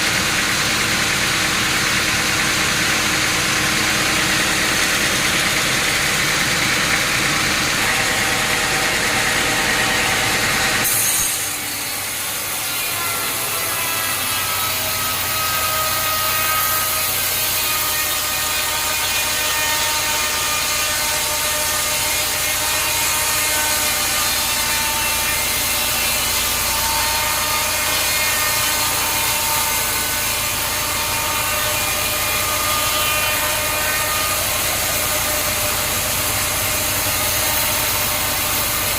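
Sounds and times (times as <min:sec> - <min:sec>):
saw cutting through log: 0:00.0 - 0:38.9.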